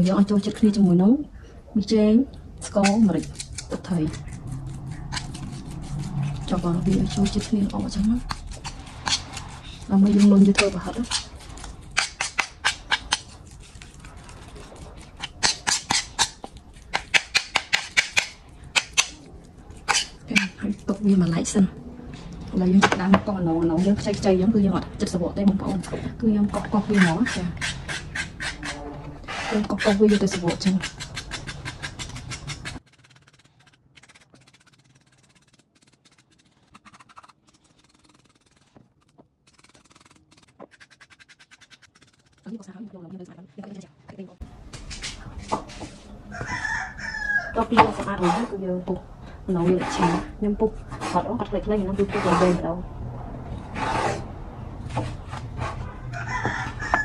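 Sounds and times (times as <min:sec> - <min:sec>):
knife scraping gourd skin: 0:02.6 - 0:21.3, 0:25.5 - 0:42.7, 0:44.7 - 0:48.6, 0:49.5 - 0:52.6, 0:53.6 - 0:57.0.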